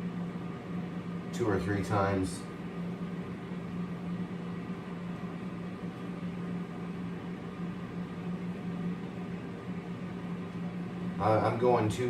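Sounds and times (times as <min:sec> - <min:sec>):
kitchen appliance hum: 0:00.0 - 0:12.0.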